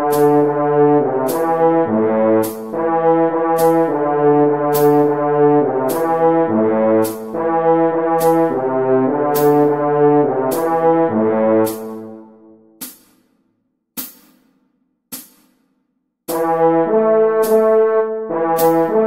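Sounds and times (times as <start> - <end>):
french horn melody: 0.0 - 12.6, 16.3 - 19.0
backing beat with cymbal ticks: 0.0 - 19.0.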